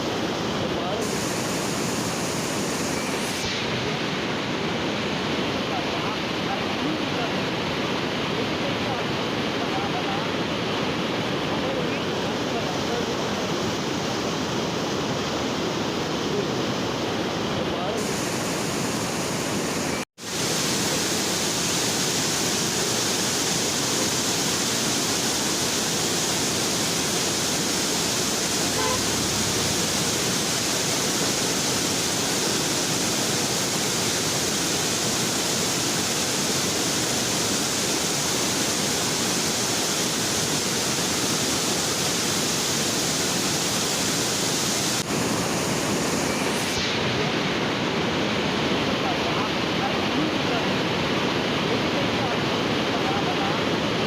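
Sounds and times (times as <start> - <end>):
water rushing through a dam: 0.0 - 54.0.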